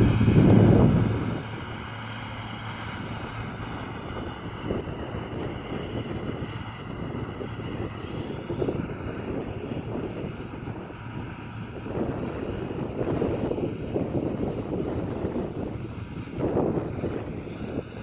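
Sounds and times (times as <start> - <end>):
distant tractor engine droning: 0.0 - 18.0.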